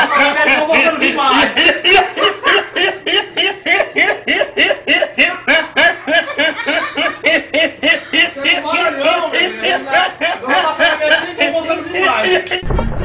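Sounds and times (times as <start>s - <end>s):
young man laughing hard: 0.0s - 12.6s.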